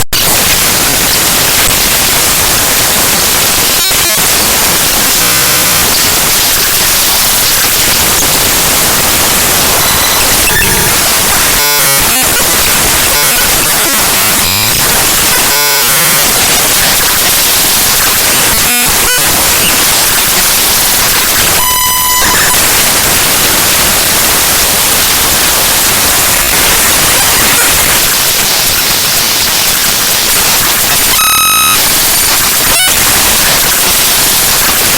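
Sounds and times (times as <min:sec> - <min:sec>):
harsh digital static: 0:00.0 - 0:34.9
buzzy patterns: 0:00.2 - 0:34.1
stack of steady tones: 0:01.3 - 0:24.0, 0:26.2 - 0:33.4.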